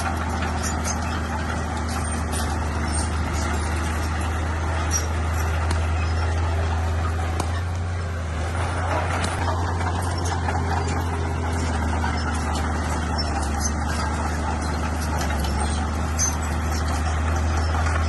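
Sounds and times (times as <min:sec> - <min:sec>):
bulldozer engine droning: 0:00.0 - 0:18.0.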